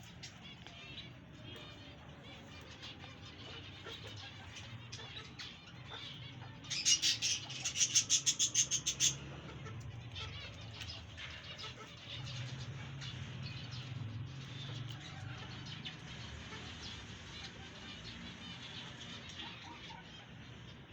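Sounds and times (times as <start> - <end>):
budgerigars chirping: 0.0 - 20.9.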